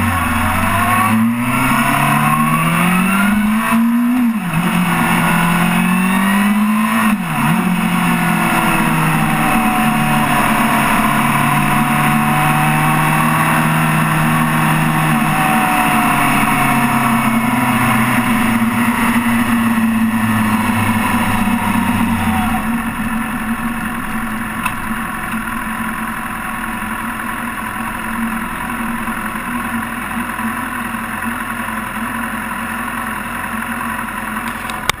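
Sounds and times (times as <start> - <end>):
motorcycle engine running hard: 0.0 - 35.0.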